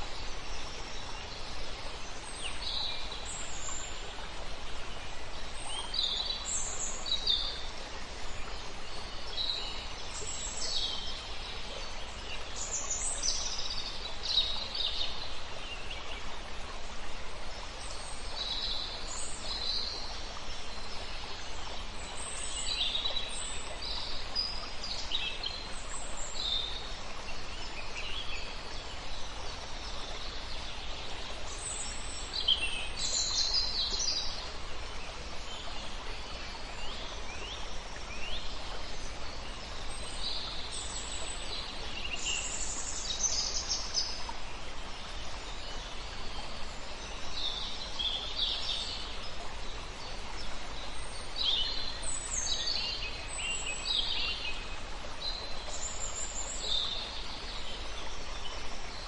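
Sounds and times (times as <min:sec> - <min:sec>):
flowing river water: 0:00.0 - 0:59.0
songbirds singing and chirping: 0:00.0 - 0:59.0.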